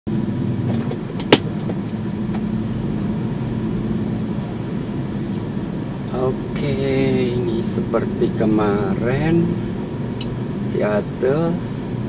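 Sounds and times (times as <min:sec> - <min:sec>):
car engine and road noise: 0:00.1 - 0:12.0.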